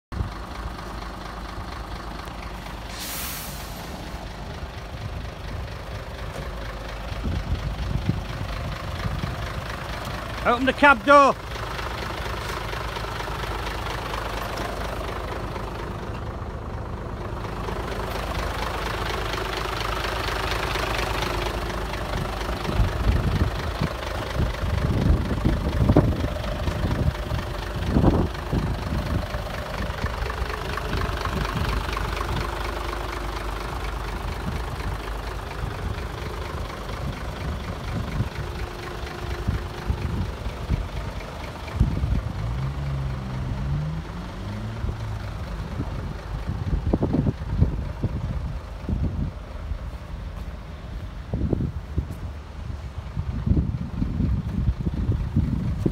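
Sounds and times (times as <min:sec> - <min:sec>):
truck engine idling: 0:00.1 - 0:55.9.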